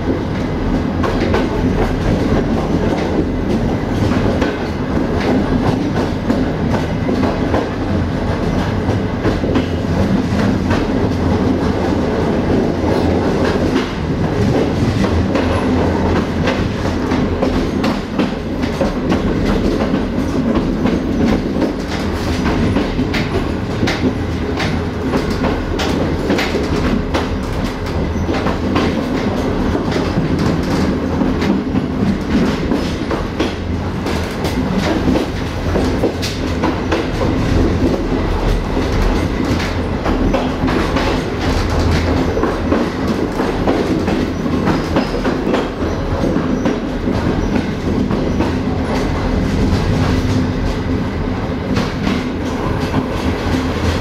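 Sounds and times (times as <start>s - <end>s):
clickety-clack over rail joints: 0.0s - 54.0s
train wheels rumbling on rail: 0.0s - 54.0s.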